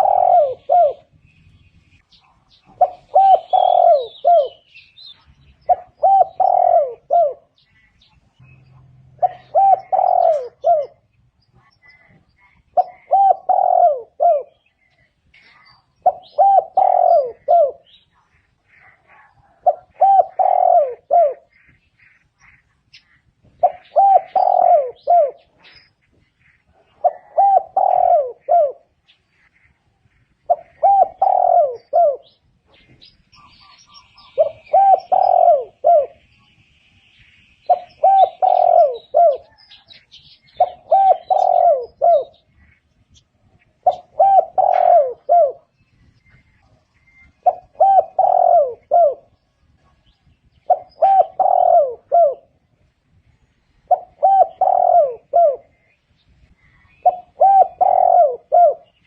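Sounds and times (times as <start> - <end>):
dove cooing: 0.0 - 1.3, 2.1 - 8.0, 8.8 - 22.7, 23.4 - 36.4, 37.6 - 53.0, 53.8 - 59.0
small birds chirping: 0.0 - 59.0.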